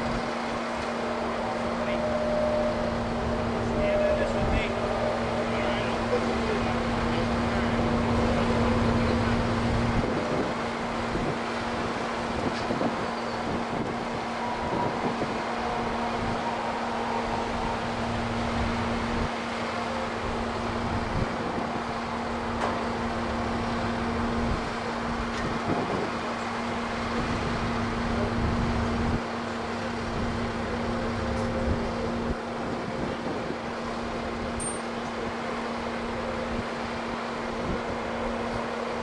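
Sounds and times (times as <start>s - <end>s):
engine humming and rumbling: 0.0s - 39.0s.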